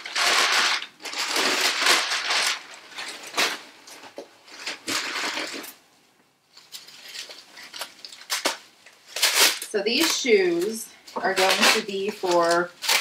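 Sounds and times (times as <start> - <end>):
bubble wrap crackling: 0.0 - 5.8, 6.5 - 13.0
tissue paper rustling: 0.0 - 5.8, 6.5 - 13.0.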